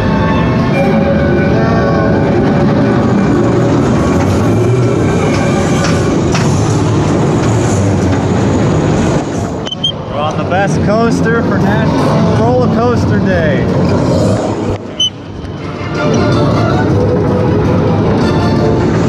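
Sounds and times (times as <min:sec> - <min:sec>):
roller coaster wheels rumbling: 0:00.0 - 0:19.0.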